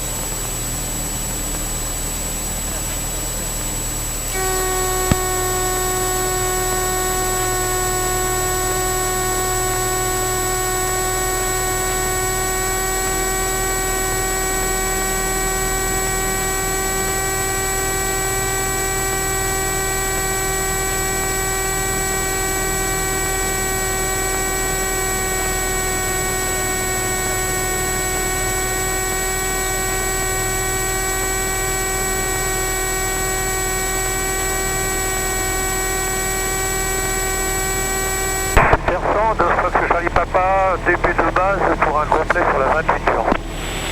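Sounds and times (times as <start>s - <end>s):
electrical interference whine: 3.9s - 43.9s.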